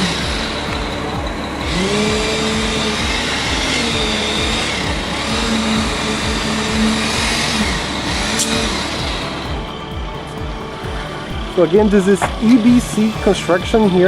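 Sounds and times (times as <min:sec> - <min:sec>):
construction machinery engine drone: 0:00.0 - 0:14.0.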